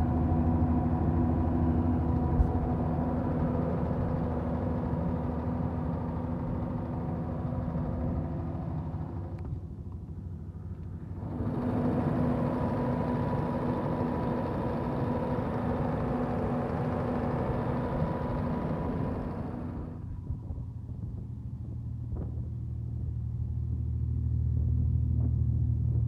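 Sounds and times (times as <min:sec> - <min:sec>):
generator diesel engine running: 0:00.0 - 0:26.0.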